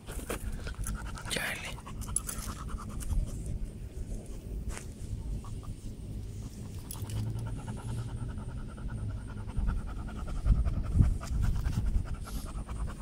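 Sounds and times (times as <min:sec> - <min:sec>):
dog panting: 0:00.0 - 0:03.6, 0:05.3 - 0:13.0.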